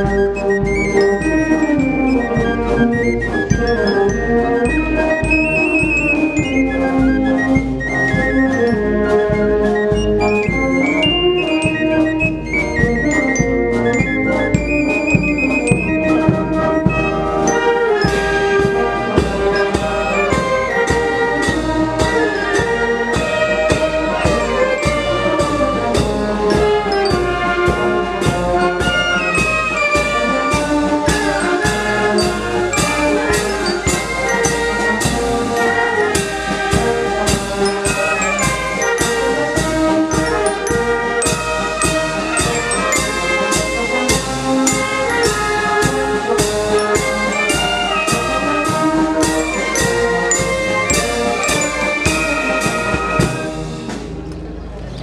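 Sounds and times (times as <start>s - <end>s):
flutes and clarinets: 0.0s - 54.8s
trumpets and trombones: 0.0s - 54.8s
bass drum and cymbal beat: 9.9s - 54.3s.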